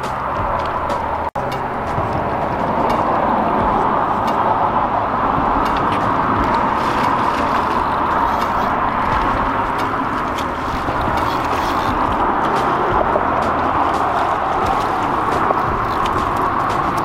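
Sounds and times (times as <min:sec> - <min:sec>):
tyres hissing on road: 0:00.0 - 0:17.0.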